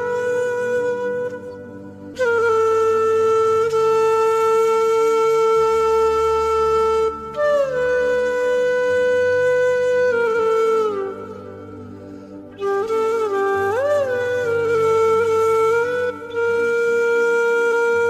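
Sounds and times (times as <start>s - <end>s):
wind instrument long bending notes: 0.0s - 18.0s.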